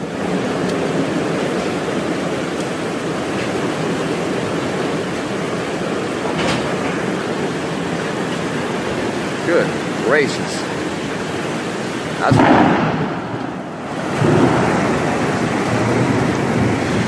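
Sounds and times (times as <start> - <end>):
heavy rain pouring: 0.0 - 17.0
strong wind: 0.0 - 17.0.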